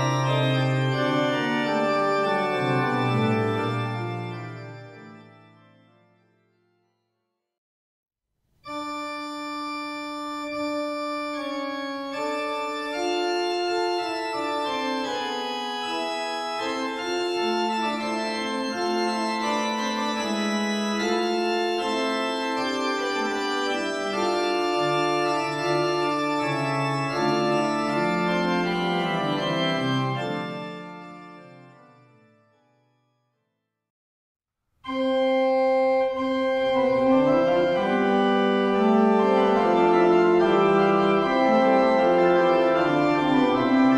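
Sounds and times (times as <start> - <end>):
pipe organ playing chords: 0.0 - 6.5, 8.7 - 32.6, 34.9 - 43.9.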